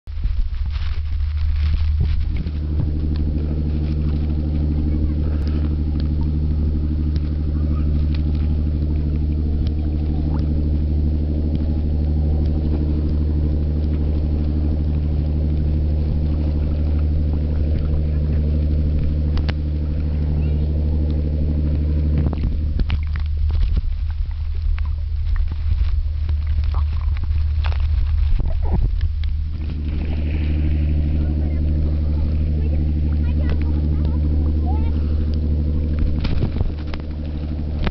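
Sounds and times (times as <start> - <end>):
boat engine humming: 0.0 - 37.9
muffled underwater splashing: 0.1 - 37.9.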